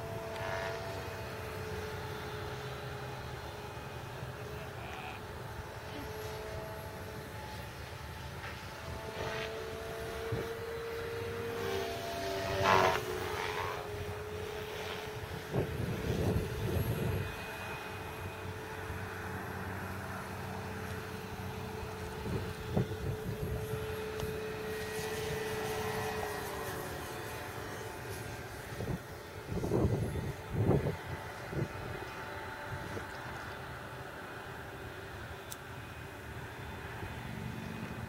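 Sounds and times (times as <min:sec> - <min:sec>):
model plane electric motor whine: 0:00.0 - 0:38.0.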